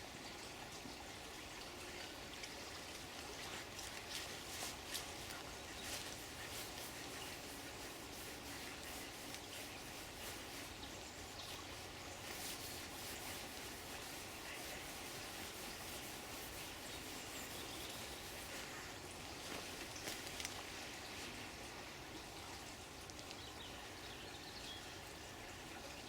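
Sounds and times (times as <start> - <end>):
water flowing and trickling: 0.0 - 24.1.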